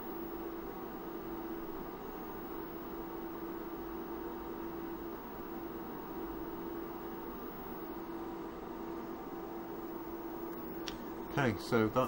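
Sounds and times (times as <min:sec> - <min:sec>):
constant mid-pitched tone: 0:00.0 - 0:12.0
electronic equipment hum: 0:00.0 - 0:12.0.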